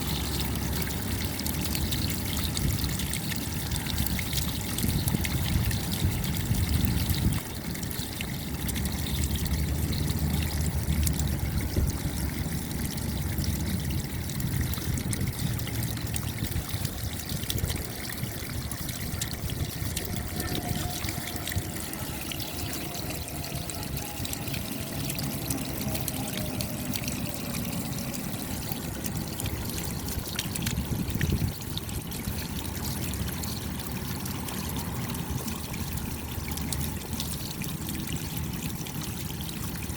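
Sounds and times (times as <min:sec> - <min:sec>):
water trickling runoff: 0:00.0 - 0:39.9.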